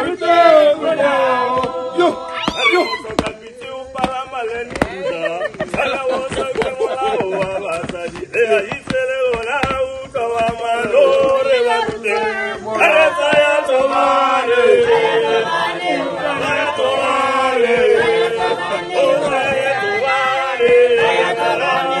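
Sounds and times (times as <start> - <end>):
group singing a chant: 0.0 - 22.0.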